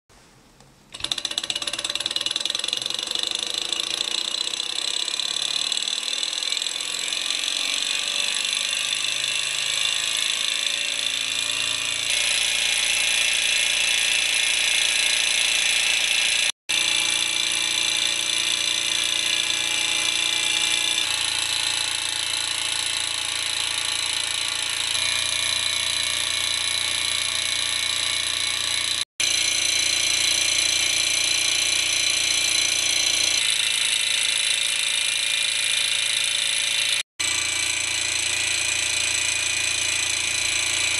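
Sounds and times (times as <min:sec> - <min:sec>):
small engine mechanical whirring: 0:00.9 - 0:40.9.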